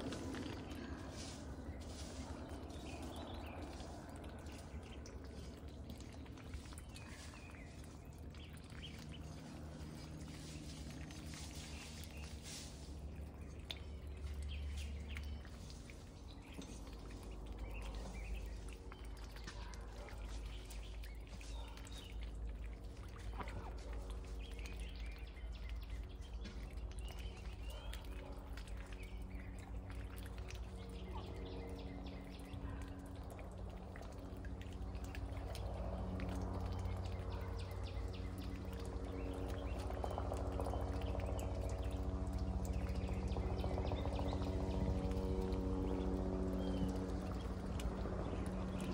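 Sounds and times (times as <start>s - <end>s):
ducks dabbling in a puddle: 0.0s - 48.9s
small birds chirping: 0.0s - 48.9s
steady low hum: 0.0s - 48.9s.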